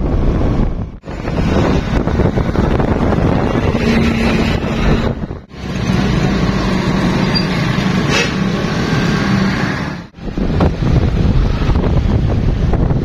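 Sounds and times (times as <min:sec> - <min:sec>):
wind rushing over microphone: 0:00.0 - 0:07.2, 0:08.7 - 0:13.0
road and traffic noise: 0:00.0 - 0:13.0
vehicle engine humming: 0:00.0 - 0:13.0.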